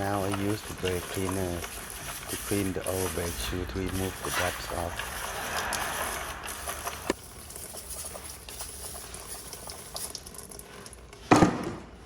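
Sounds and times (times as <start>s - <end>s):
liquid pattering and ticking: 0.0s - 11.2s.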